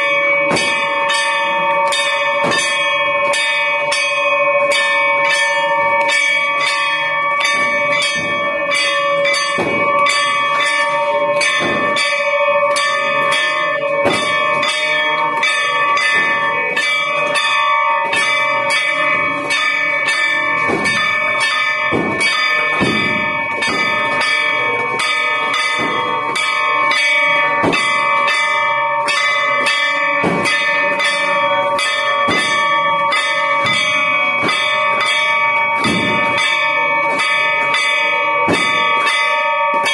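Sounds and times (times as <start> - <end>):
brass bells clanging: 0.0 - 39.9
hand-held gong: 0.0 - 39.9.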